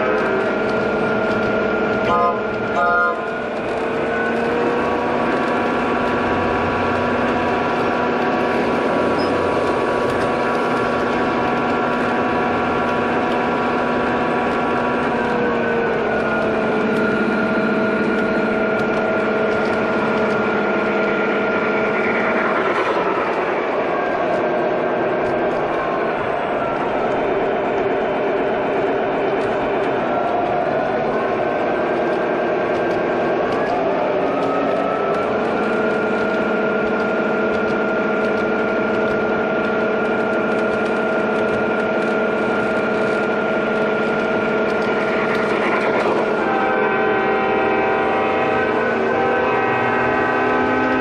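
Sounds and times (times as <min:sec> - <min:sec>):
model train motor whine: 0:00.0 - 0:51.0
wheels rumbling on track: 0:00.0 - 0:51.0.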